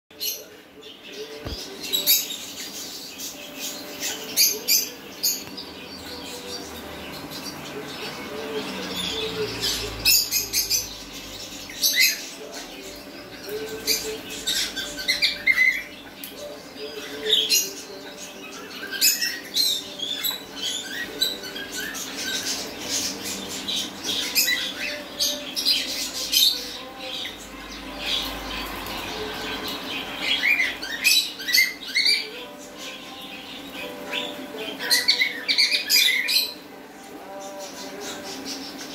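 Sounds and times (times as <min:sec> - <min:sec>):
parrots squawking and chirping: 0:01.3 - 0:36.7.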